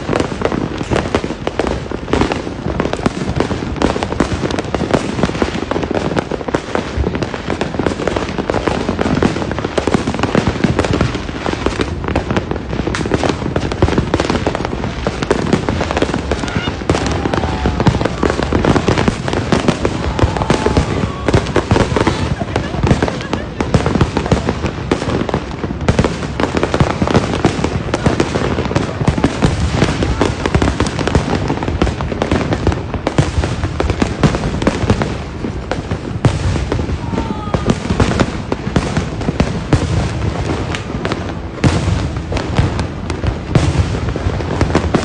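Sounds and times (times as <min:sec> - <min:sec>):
fireworks crackling and banging: 0:00.0 - 0:45.0.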